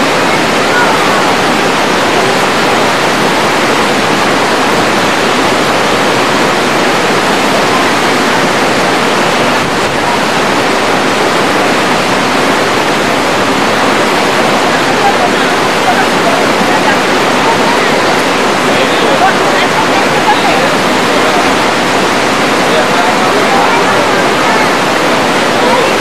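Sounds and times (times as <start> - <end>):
fast river rushing: 0.0 - 26.0.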